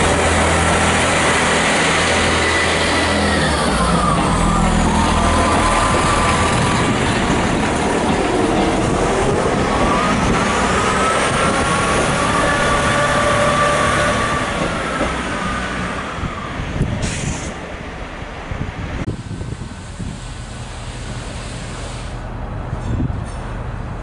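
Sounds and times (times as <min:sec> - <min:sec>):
diesel train engine whining: 0:00.0 - 0:24.0.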